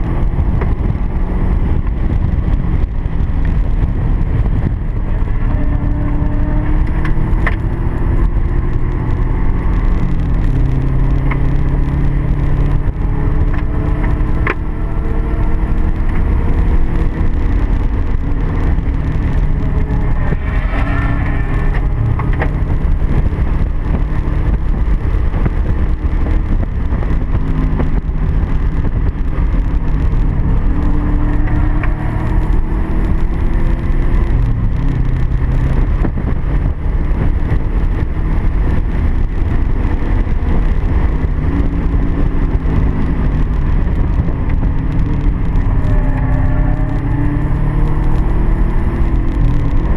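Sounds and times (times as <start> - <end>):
car engine revving: 0.0 - 49.9
road and wind noise: 0.0 - 49.9.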